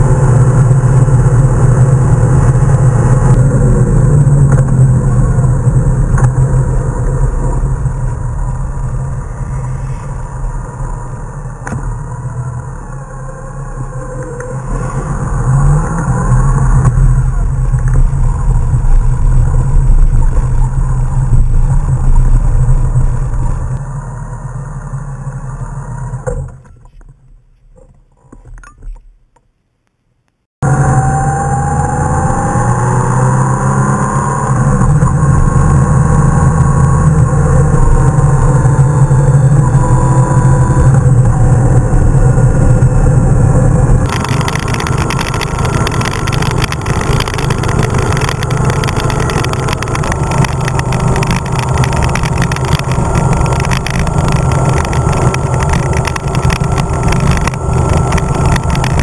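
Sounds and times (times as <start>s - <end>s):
wind noise: 0.0s - 24.7s, 30.6s - 59.0s
motorcycle engine: 0.0s - 26.9s, 30.6s - 59.0s.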